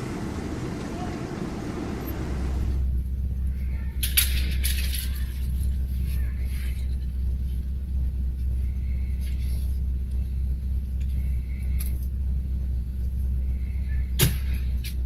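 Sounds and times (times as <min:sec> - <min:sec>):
car rumble while driving: 0:00.0 - 0:15.0.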